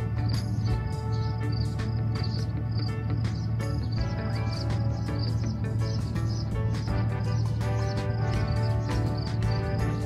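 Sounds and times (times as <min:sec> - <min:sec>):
background music with steady beat: 0:00.0 - 0:10.0
low held bass: 0:00.0 - 0:10.0.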